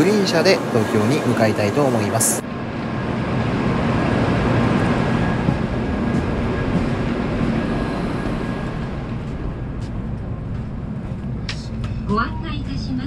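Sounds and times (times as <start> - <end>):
train hum and rushing: 0.0 - 13.0.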